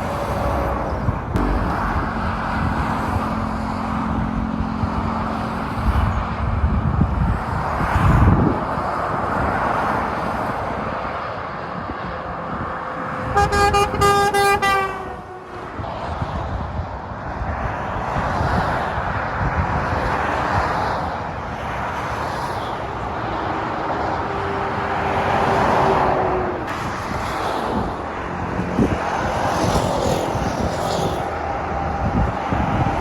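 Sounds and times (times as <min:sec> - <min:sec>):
motorway traffic roar: 0:00.0 - 0:33.0.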